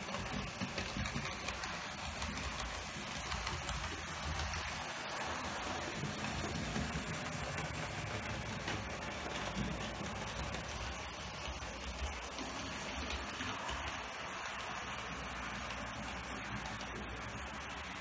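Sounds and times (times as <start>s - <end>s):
model train motor whirring: 0.0s - 18.0s
wheels rolling on rails: 0.0s - 18.0s.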